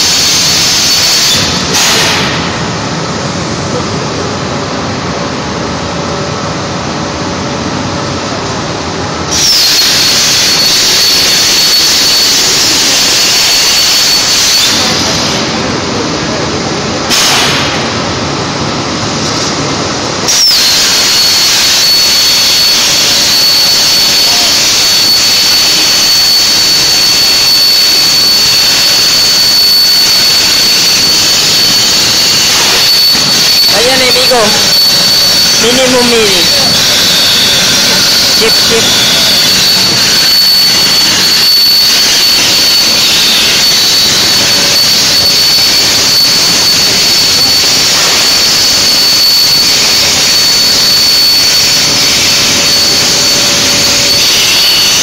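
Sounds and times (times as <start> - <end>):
plasma torch hissing and whining: 0.0 - 3.1, 9.2 - 55.0
shop machine noise: 0.0 - 55.0.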